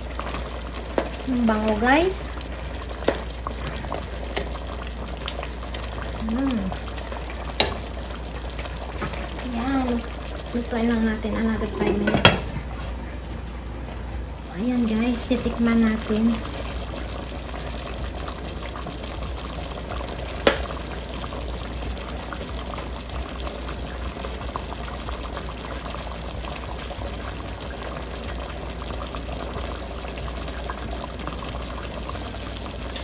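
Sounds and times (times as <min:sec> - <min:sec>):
curry bubbling in a pot: 0:00.0 - 0:12.5, 0:14.7 - 0:33.0.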